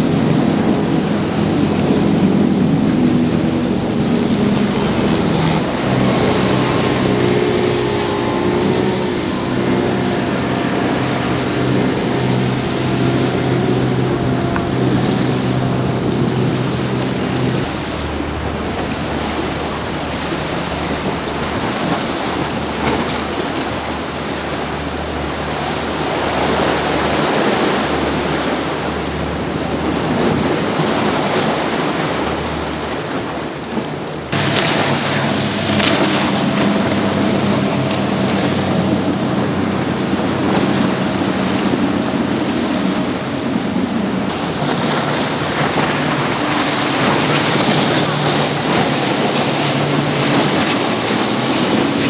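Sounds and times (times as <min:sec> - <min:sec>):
powerboat engines: 0:00.0 - 0:52.0
waves rushing: 0:00.0 - 0:52.0
wind buffeting microphone: 0:00.0 - 0:52.0.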